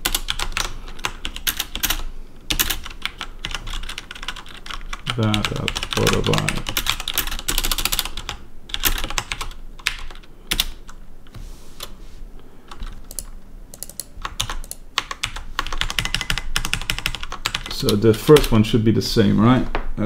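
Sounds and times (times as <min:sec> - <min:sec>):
typing on computer keyboard: 0:00.0 - 0:11.0, 0:12.7 - 0:18.6.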